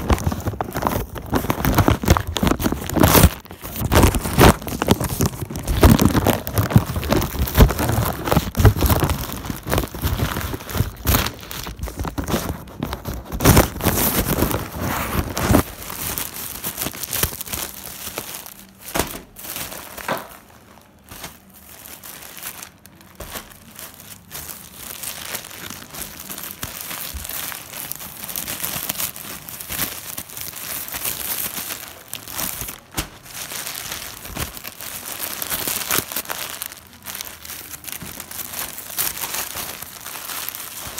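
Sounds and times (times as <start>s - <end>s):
plastic packaging crinkling and tearing: 0.0s - 40.9s.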